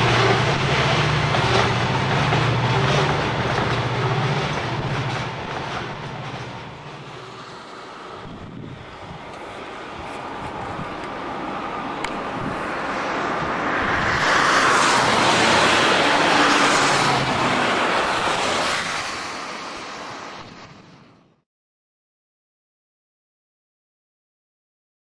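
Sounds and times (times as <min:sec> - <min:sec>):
road vehicle passing: 0:00.0 - 0:21.0.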